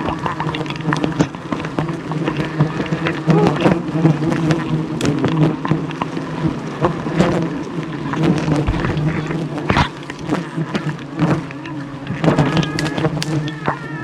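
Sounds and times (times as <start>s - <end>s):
bees buzzing: 0.0s - 14.0s
knocks and crackles: 0.0s - 14.0s.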